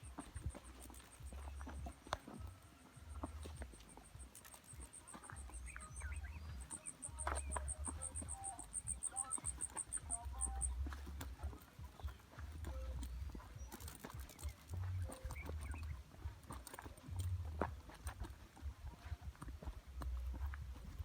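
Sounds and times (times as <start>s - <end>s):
insect pulsed trill: 0.0s - 17.6s.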